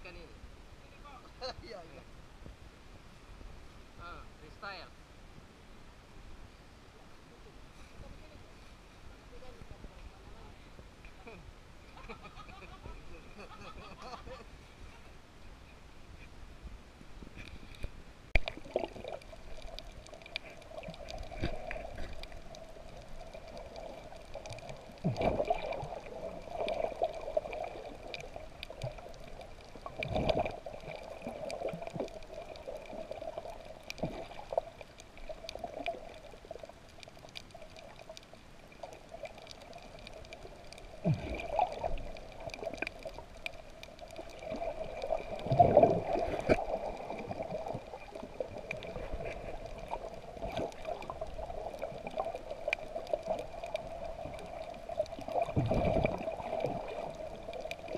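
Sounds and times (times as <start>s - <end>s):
muffled water sloshing underwater: 5.1s - 57.9s.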